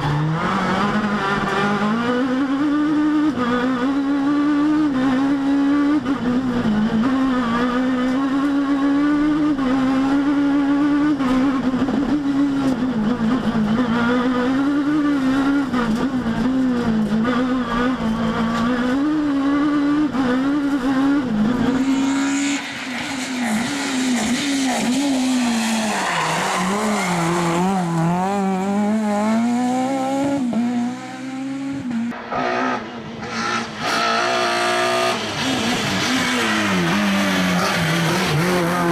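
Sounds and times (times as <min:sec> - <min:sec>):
rally car engine at high revs: 0:00.0 - 0:38.9.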